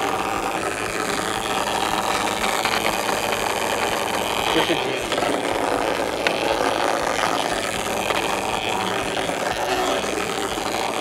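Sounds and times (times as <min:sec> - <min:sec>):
vibration motor buzzing and rattling: 0:00.0 - 0:11.0.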